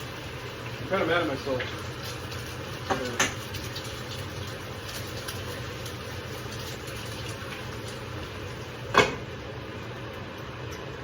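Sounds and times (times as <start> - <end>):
kitchen hum and hiss: 0.0 - 11.0.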